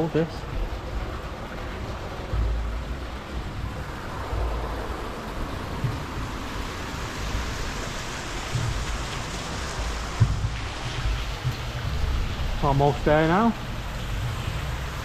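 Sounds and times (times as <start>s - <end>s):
rushing water in lock chamber: 0.0s - 15.0s
low thumps: 0.4s - 15.0s.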